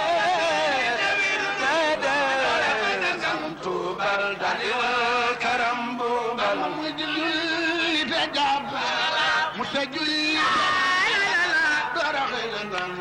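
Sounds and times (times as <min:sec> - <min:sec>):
men chanting devotional verse: 0:00.0 - 0:13.0.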